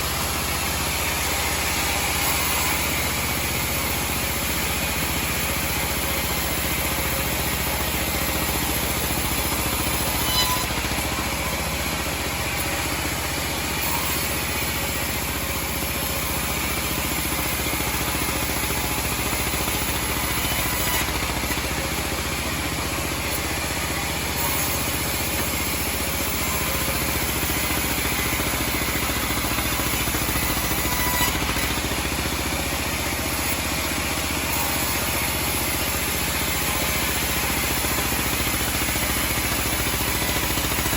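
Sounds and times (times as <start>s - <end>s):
band sawmill running: 0.0s - 40.9s.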